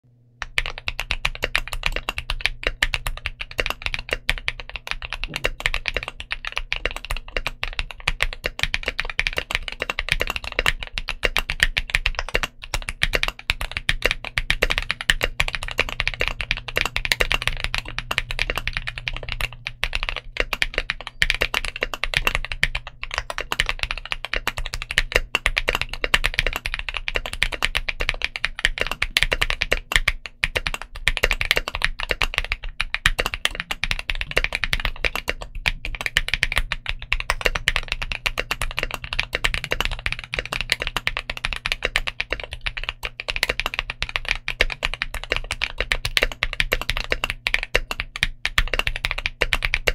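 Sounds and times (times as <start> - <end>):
mechanical keyboard typing: 0.4 - 49.9.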